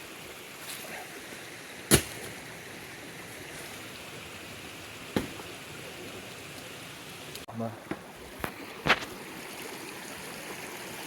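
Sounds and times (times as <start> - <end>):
creek running: 0.0 - 11.0.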